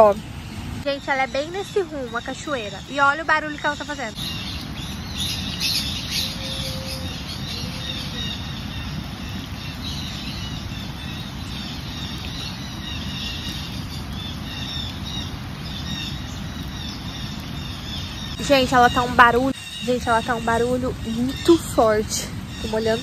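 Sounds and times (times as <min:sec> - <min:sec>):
birds chirping: 0:00.0 - 0:23.0
waterfall rushing: 0:04.2 - 0:23.0.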